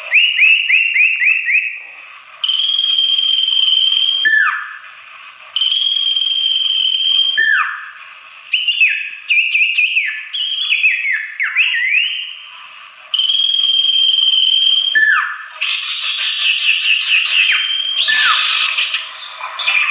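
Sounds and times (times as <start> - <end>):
bird whistling calls: 0.0 - 1.8, 2.4 - 4.9, 5.6 - 12.5, 13.1 - 19.9.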